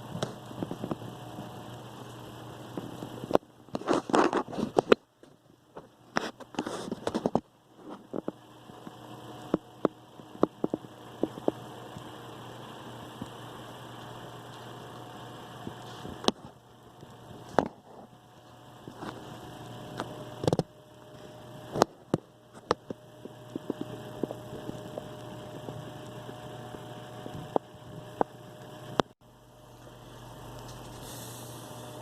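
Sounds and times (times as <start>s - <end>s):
faint steady whine: 0.0s - 32.0s
steady low hum: 0.0s - 32.0s.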